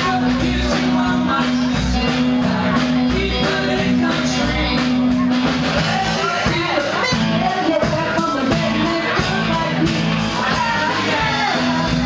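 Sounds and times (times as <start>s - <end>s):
live country band playing: 0.0s - 12.0s
woman singing: 0.0s - 12.0s.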